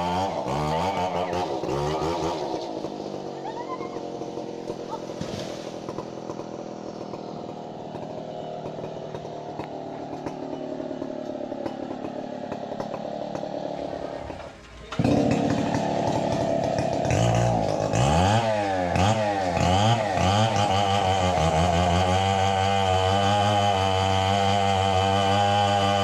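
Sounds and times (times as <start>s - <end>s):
chainsaw engine running: 0.0s - 26.0s.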